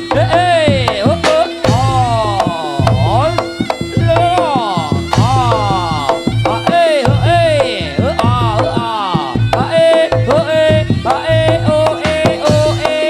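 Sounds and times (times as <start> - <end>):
hand drums beating: 0.0 - 13.0
wailing sliding melody: 0.0 - 13.0.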